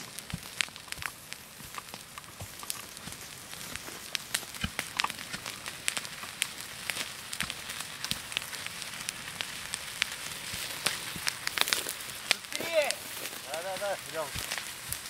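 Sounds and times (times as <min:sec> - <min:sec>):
fire crackling and popping: 0:00.0 - 0:15.0
steady fire hiss: 0:00.0 - 0:15.0.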